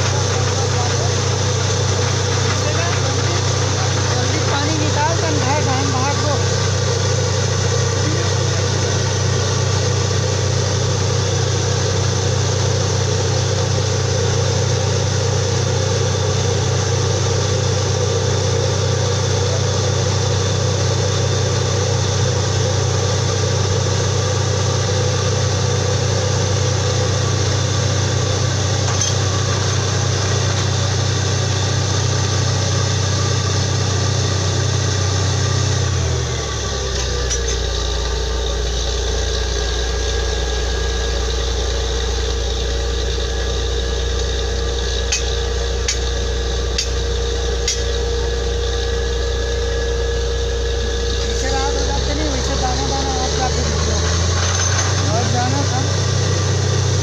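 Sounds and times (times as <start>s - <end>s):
drilling rig engine droning: 0.0s - 57.0s.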